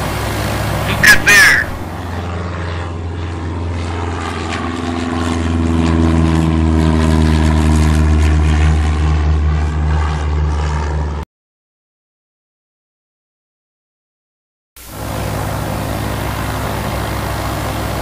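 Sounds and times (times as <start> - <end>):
propeller airplane engine drone: 0.0 - 11.3, 14.8 - 18.0.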